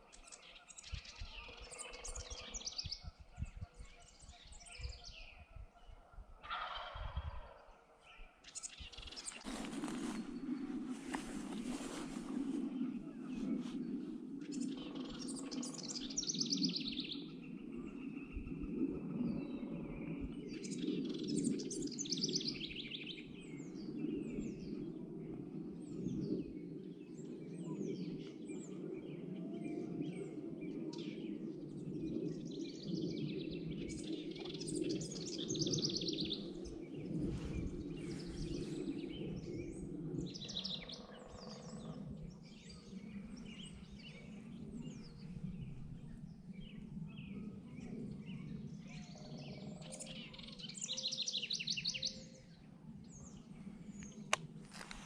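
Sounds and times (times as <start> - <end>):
songbirds trilling: 6.5 - 55.0.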